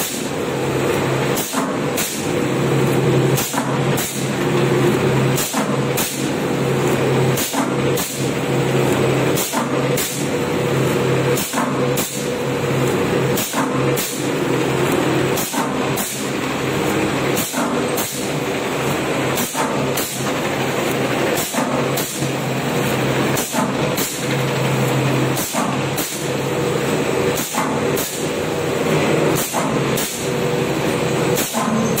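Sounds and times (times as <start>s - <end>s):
machine motor hum: 0.1s - 32.0s.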